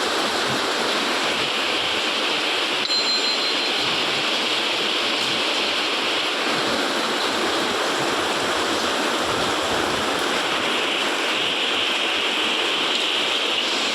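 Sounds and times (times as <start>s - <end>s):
heavy rain falling: 0.0s - 13.9s.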